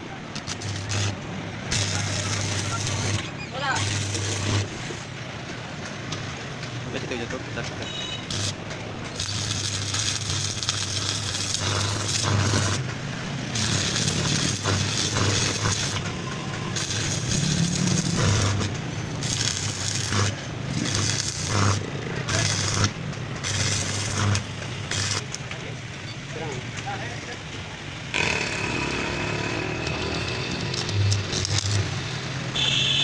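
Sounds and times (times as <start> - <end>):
welding arc crackling sizzle: 0.2 - 5.2, 6.1 - 33.0
welding set low buzz: 0.2 - 5.2, 7.0 - 25.9, 27.9 - 33.0.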